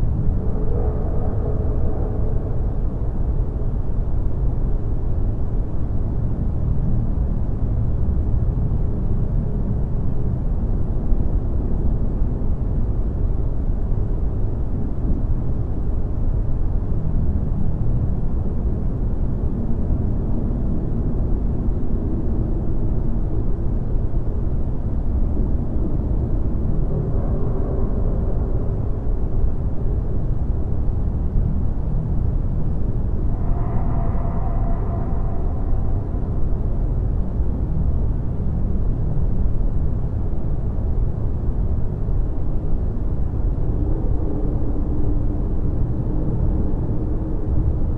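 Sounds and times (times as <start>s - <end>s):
deep rumbling drone: 0.0s - 47.9s.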